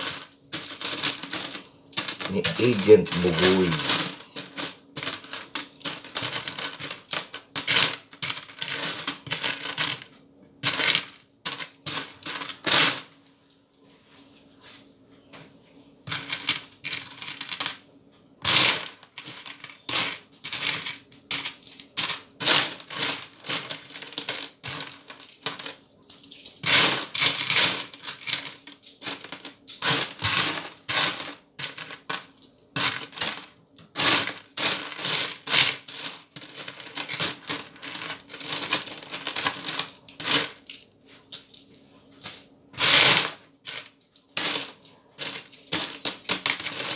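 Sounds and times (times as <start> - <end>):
coins clinking and rattling: 0.0 - 13.8, 16.1 - 17.8, 18.4 - 46.9.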